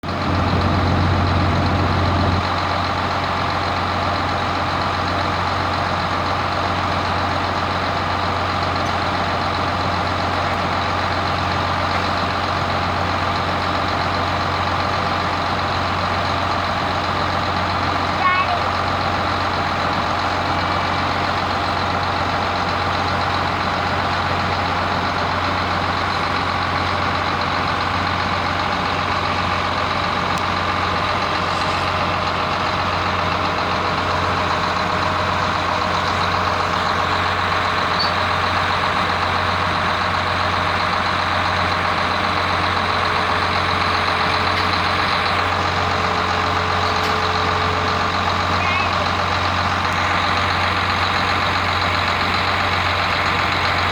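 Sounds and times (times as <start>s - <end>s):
hay baler engine droning: 0.0s - 53.9s.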